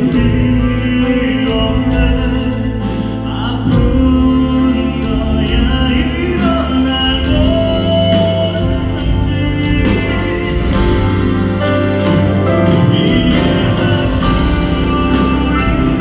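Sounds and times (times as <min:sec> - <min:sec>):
live band playing a ballad: 0:00.0 - 0:16.0
person singing: 0:00.0 - 0:16.0.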